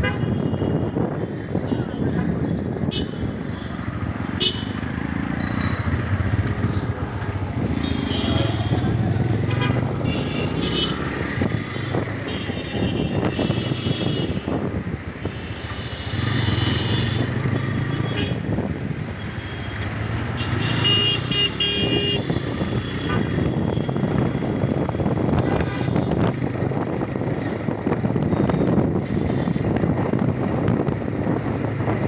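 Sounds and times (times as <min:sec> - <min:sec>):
motorcycle engine and exhaust: 0:00.0 - 0:32.0.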